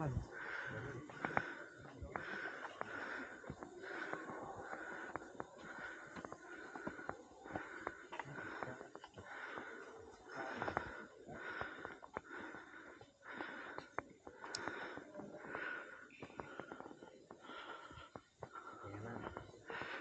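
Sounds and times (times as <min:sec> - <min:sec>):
person breathing fast and heavily: 0:00.0 - 0:20.0.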